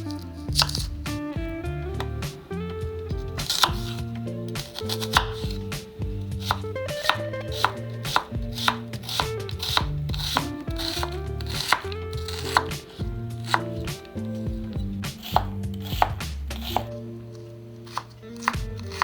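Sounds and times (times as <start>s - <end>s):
knife chopping vegetables: 0.0s - 2.5s, 3.2s - 17.0s, 17.9s - 19.0s.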